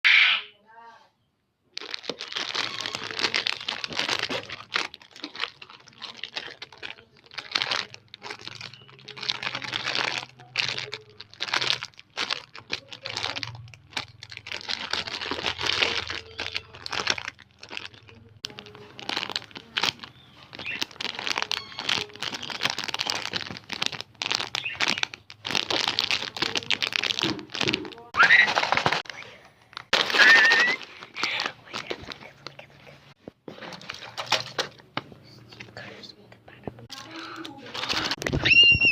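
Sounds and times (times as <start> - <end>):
squishy toy crinkling: 1.7 - 34.9, 36.9 - 38.9.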